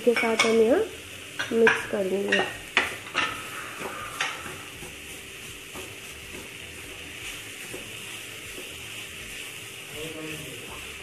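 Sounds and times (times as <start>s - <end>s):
food sizzling in oil: 0.0s - 11.0s
spatula scraping pan: 1.4s - 11.0s.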